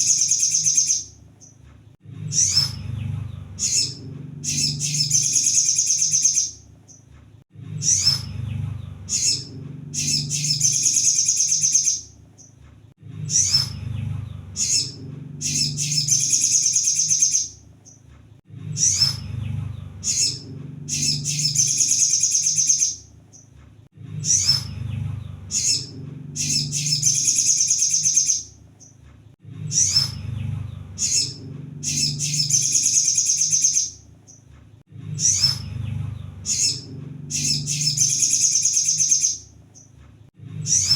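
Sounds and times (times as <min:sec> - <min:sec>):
bird trilling and chirping: 0:00.0 - 0:01.6, 0:02.2 - 0:07.1, 0:07.8 - 0:12.6, 0:13.2 - 0:18.0, 0:18.7 - 0:23.5, 0:24.2 - 0:29.0, 0:29.7 - 0:34.5, 0:35.1 - 0:40.0, 0:40.6 - 0:40.9
low steady hum: 0:01.0 - 0:05.7, 0:06.5 - 0:22.0, 0:23.0 - 0:27.4, 0:28.4 - 0:33.1, 0:34.0 - 0:40.9.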